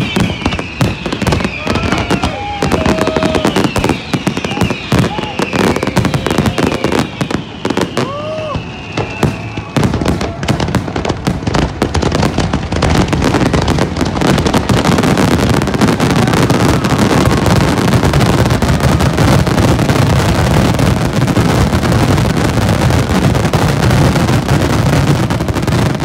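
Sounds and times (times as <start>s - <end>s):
fireworks crackling barrage: 0.0s - 26.0s.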